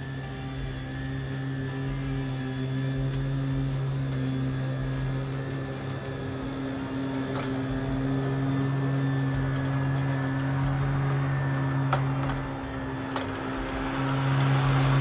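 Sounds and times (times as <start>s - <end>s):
electric lawn mower running: 0.0s - 15.0s.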